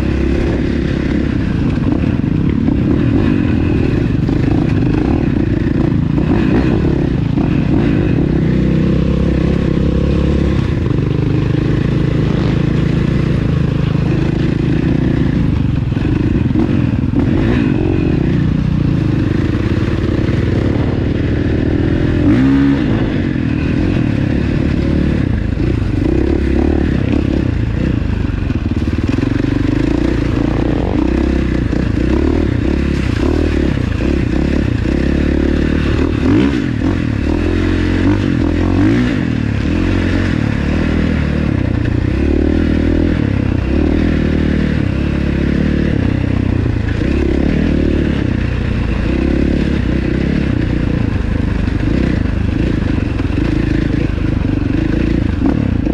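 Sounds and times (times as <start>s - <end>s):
quad bike engine running: 0.0s - 55.9s.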